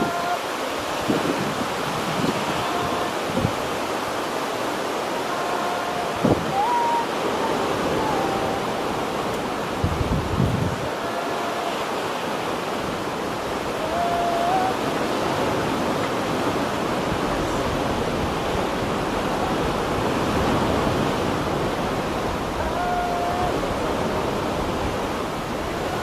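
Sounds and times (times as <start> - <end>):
waves breaking: 0.0 - 26.0
wind: 0.0 - 26.0.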